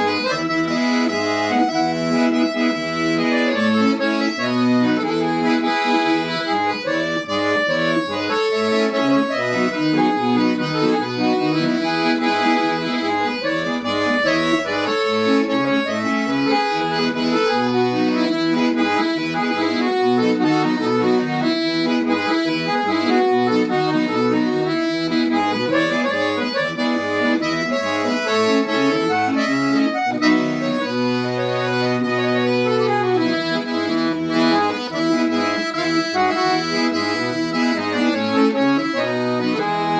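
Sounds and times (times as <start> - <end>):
accordion-led traditional music: 0.0 - 39.9.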